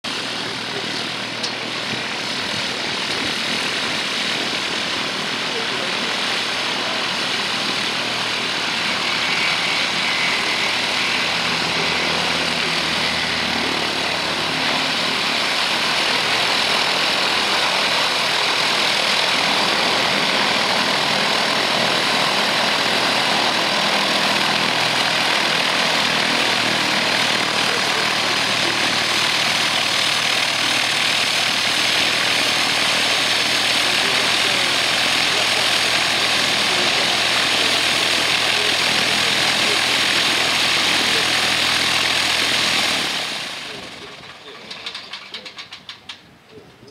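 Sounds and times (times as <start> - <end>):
propeller plane engine drone: 0.0 - 46.9.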